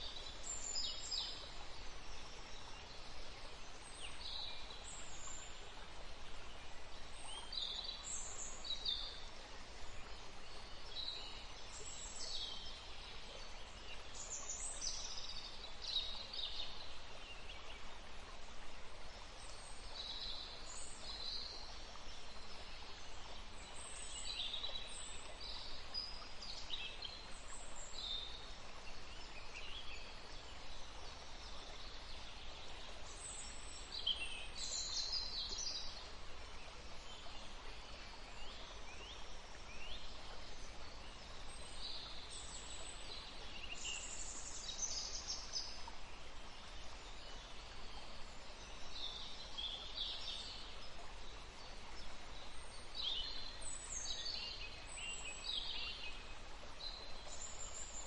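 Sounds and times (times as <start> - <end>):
flowing stream water: 0.0 - 58.0
songbirds singing and chirping: 0.0 - 58.0.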